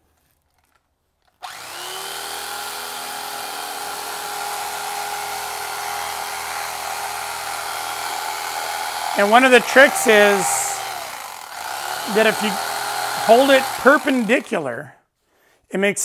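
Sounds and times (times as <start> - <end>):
blades cutting foam: 1.3 - 14.7
electric carving knife motor: 1.4 - 14.6.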